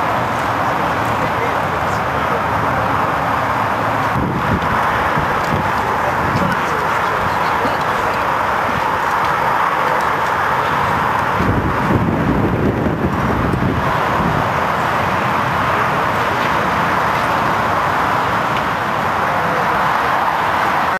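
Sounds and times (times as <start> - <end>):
low rumble: 0.0 - 19.9
rushing outdoor background noise: 0.0 - 20.9.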